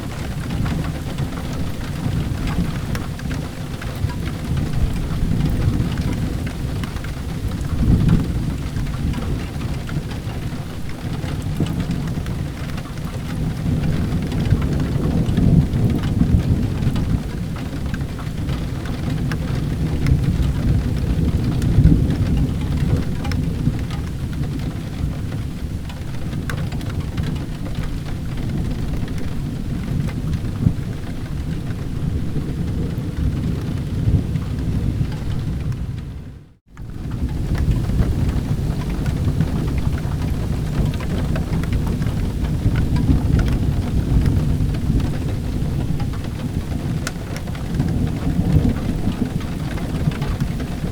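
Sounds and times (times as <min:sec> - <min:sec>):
deep rumble of thunder: 0:00.0 - 0:50.9
small ticks of raindrops: 0:00.0 - 0:50.9
steady rain: 0:00.0 - 0:50.9.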